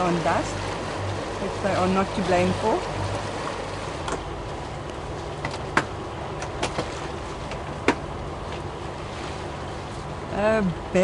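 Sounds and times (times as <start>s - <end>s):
boat hum and water wash: 0.0s - 11.0s.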